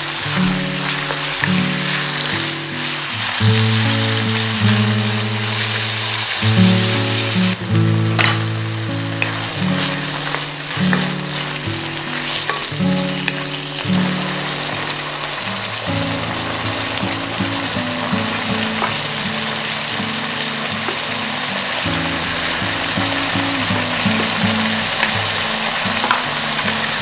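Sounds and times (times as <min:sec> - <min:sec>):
food sizzling in hot oil: 0:00.0 - 0:27.0
light background music: 0:03.2 - 0:27.0.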